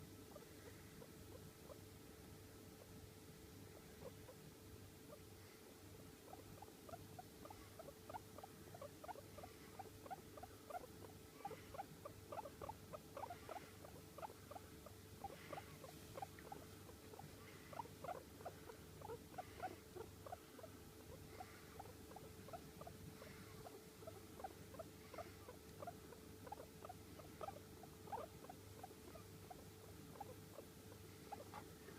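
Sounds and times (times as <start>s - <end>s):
guinea pig squeaking: 0.3s - 1.8s, 3.9s - 4.5s, 6.2s - 31.8s.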